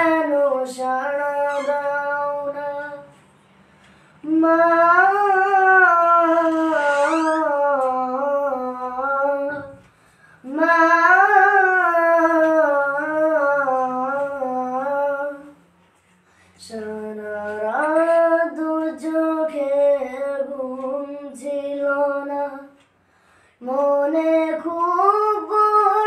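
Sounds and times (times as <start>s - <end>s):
boy singing unaccompanied: 0.0s - 3.2s, 4.2s - 9.8s, 10.4s - 15.6s, 16.6s - 22.8s, 23.6s - 26.0s.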